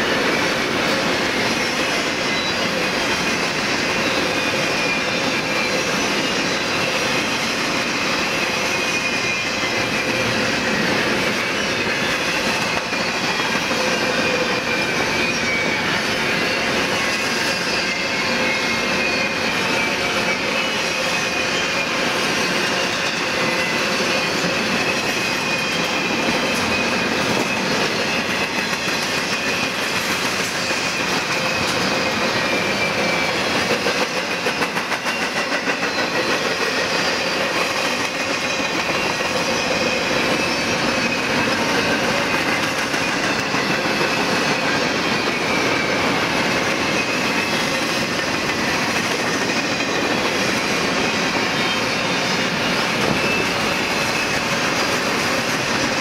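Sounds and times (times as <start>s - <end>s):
steel wheels clattering on rails: 0.0s - 56.0s.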